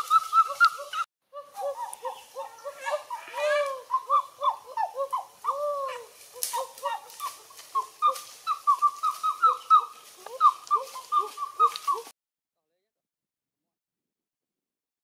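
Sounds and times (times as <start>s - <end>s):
birds chirping: 0.0s - 12.1s.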